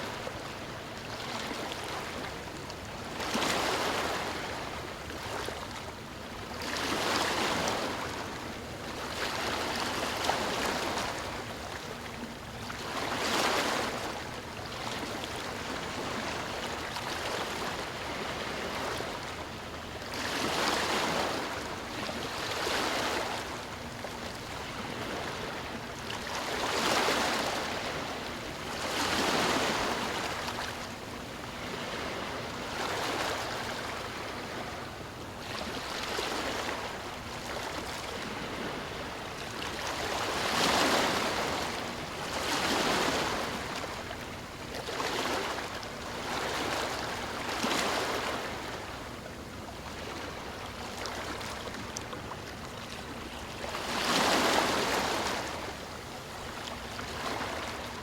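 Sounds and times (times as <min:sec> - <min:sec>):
small waves breaking ashore: 0:00.0 - 0:58.0.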